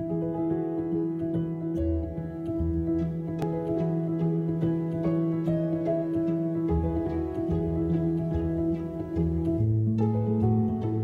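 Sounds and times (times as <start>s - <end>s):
plucked string notes: 0.0s - 11.0s.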